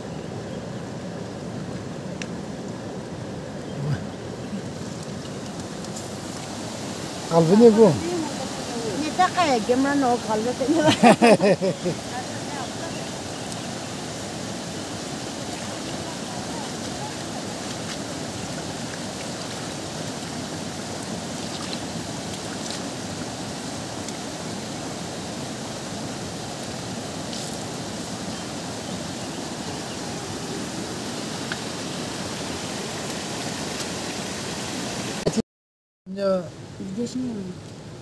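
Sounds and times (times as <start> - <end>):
flowing water rushing: 0.0 - 35.4.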